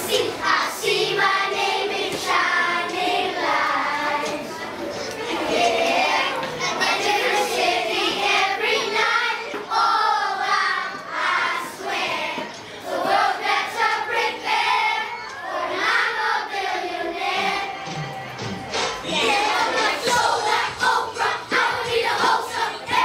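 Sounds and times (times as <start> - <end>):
children singing: 0.0 - 23.0.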